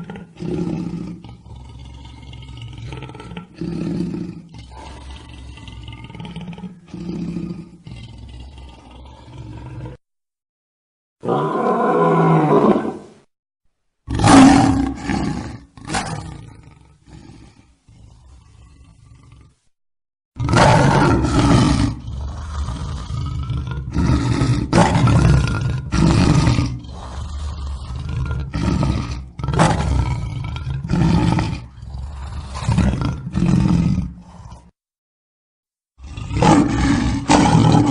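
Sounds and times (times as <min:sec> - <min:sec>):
lion roaring: 0:00.0 - 0:10.0, 0:11.2 - 0:13.1, 0:14.1 - 0:19.6, 0:20.4 - 0:34.8, 0:36.0 - 0:37.9.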